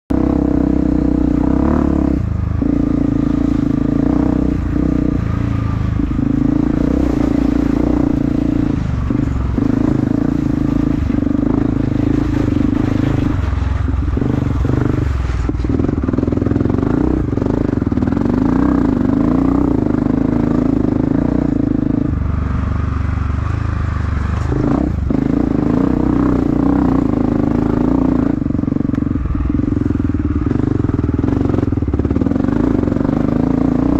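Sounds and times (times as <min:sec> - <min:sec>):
dirt bike engine revving: 0:00.1 - 0:22.6, 0:23.2 - 0:33.9.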